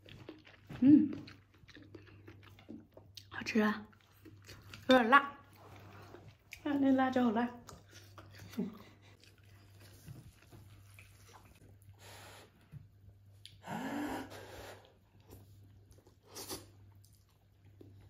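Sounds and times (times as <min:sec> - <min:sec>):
people chewing noodles: 0:00.0 - 0:18.0.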